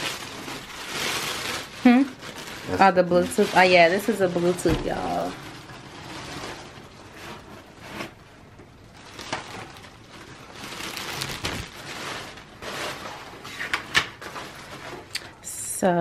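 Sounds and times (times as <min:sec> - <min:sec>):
packaging sheets rustling: 0:00.0 - 0:15.4.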